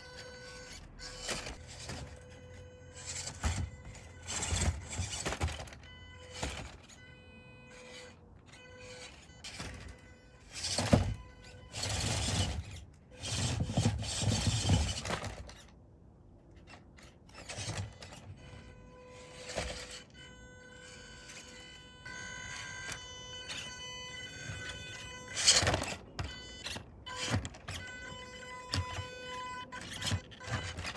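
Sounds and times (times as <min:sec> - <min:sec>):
toy car motors whirring: 0:00.0 - 0:30.9.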